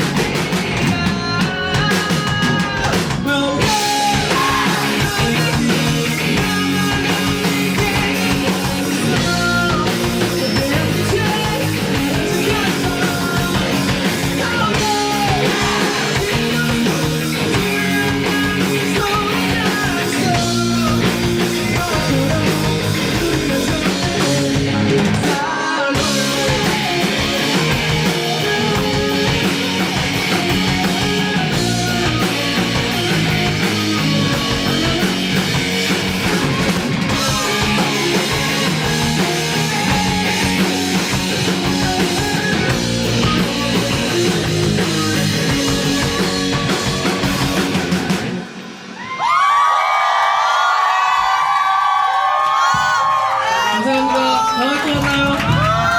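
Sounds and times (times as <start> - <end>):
rock band playing live: 0.0 - 55.9.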